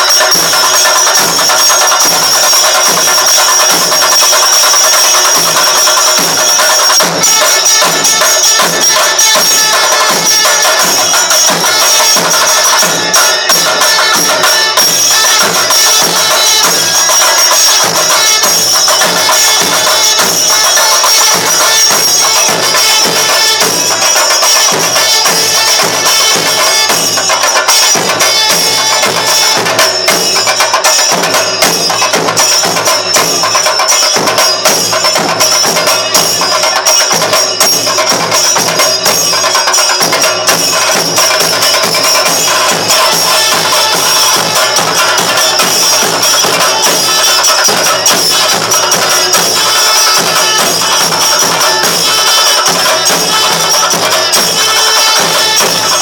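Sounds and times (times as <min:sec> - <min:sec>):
cymbals ringing: 0:00.0 - 0:56.0
drums beaten in fast rhythm: 0:00.0 - 0:56.0.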